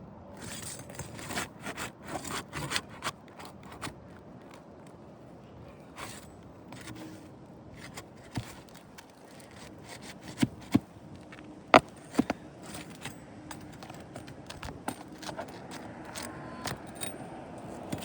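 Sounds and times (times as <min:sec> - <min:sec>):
scraping shingles: 0:00.4 - 0:04.6, 0:05.8 - 0:17.0.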